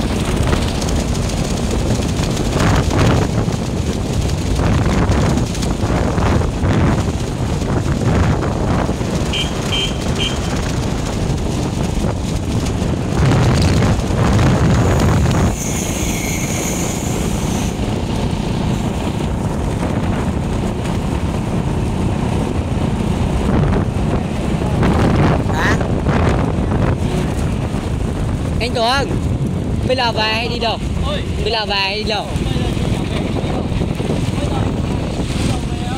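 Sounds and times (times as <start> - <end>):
road and traffic noise: 0.0 - 35.9
wind rushing over microphone: 0.0 - 35.9.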